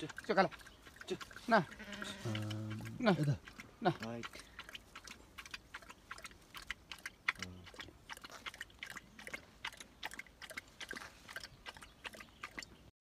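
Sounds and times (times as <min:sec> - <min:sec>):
dog chewing food: 0:00.0 - 0:12.7.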